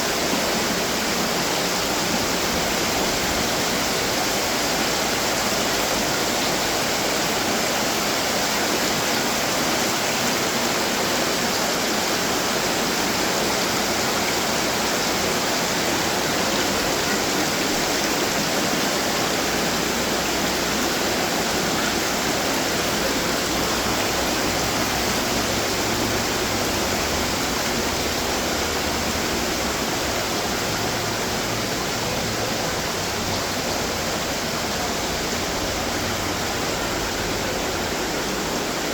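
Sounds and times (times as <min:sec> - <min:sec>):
fountain water splashing into basins: 0:00.0 - 0:38.9.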